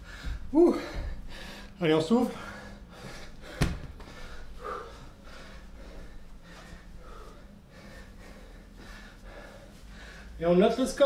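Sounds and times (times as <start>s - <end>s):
man breathing hard: 0.0s - 10.4s.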